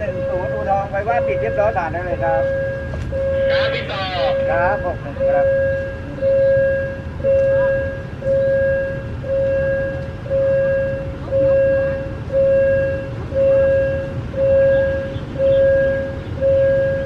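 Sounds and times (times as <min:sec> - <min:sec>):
level crossing alarm tone: 0:00.0 - 0:17.0.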